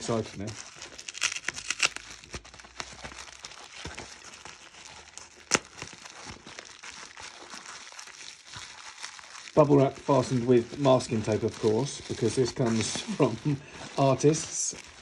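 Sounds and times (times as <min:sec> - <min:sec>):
bubble wrap crinkling: 0:00.0 - 0:15.0
tape peeling: 0:00.0 - 0:15.0.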